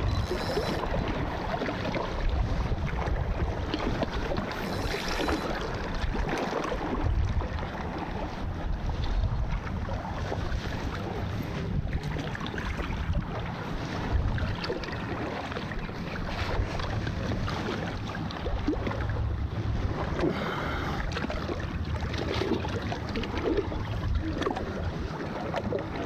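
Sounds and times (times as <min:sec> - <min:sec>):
water lapping against rocks: 0:00.0 - 0:26.0
wind on microphone: 0:00.0 - 0:26.0.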